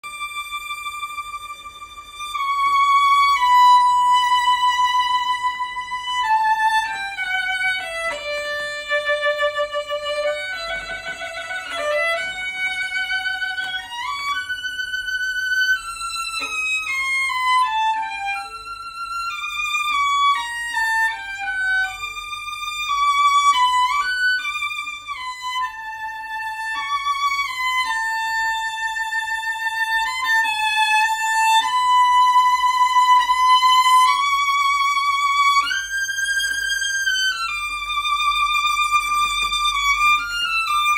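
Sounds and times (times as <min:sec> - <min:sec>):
solo violin slow melody: 0:00.0 - 0:40.9.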